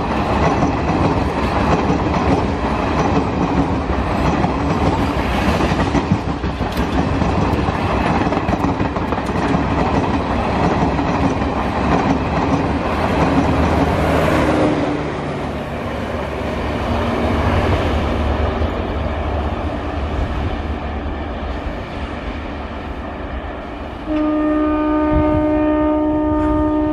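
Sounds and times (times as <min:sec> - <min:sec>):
train wheels rumbling and clattering: 0:00.0 - 0:26.9.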